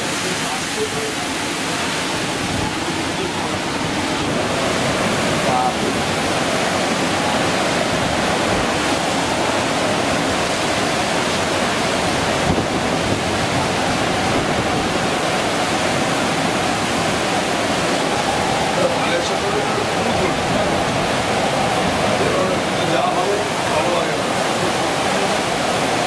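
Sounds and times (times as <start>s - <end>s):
rough sea surf: 0.0s - 26.0s
wind: 0.0s - 26.0s.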